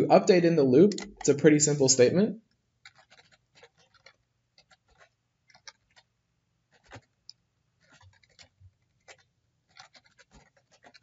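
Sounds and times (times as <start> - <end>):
keyboard typing: 0.8 - 2.2, 2.8 - 6.1, 6.7 - 11.0.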